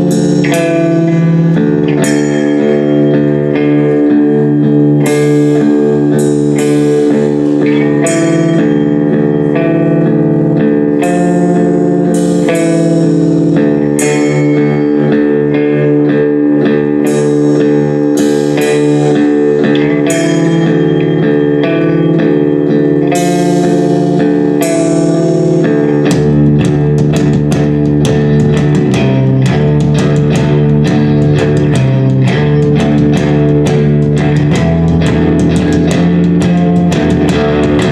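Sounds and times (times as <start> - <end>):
bass guitar: 0.0 - 37.9
guitar chords strummed: 0.0 - 37.9
rock band playing: 0.0 - 37.9.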